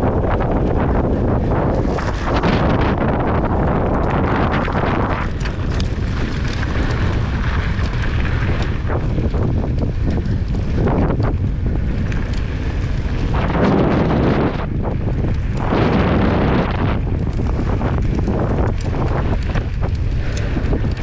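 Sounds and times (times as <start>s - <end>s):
bike rattling over trail: 0.0s - 21.0s
wind rushing over microphone: 0.0s - 21.0s.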